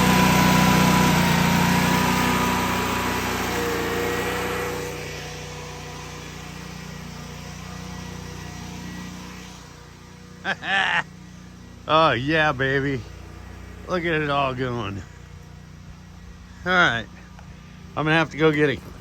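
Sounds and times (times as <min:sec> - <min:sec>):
portable generator engine running: 0:00.0 - 0:19.0.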